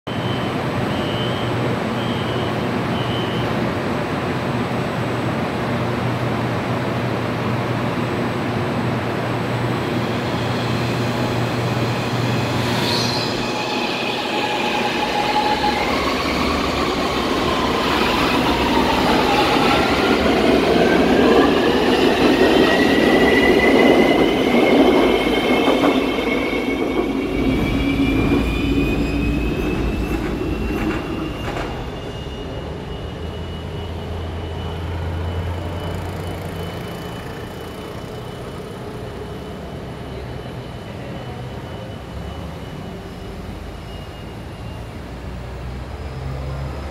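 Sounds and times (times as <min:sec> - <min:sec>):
train low hum: 0:00.5 - 0:46.9
train running noise: 0:00.5 - 0:46.9.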